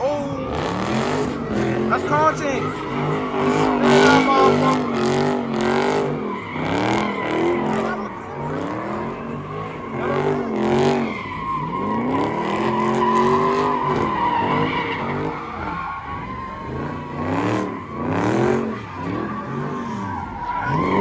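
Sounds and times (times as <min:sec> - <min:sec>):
car engines revving hard: 0:00.0 - 0:21.0
high-pitched tyre squeal: 0:00.0 - 0:21.0.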